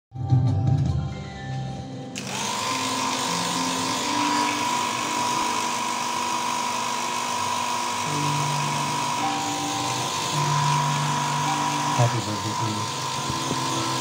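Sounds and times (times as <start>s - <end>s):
hair dryer running: 2.1s - 14.0s.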